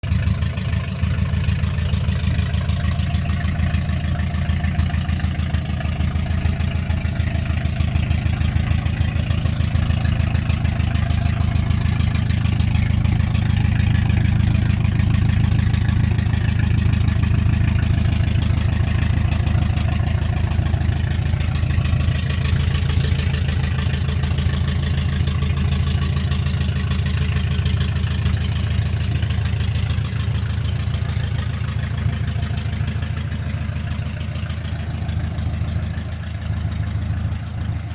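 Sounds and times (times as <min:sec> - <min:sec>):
pickup engine idling: 0:00.0 - 0:37.9.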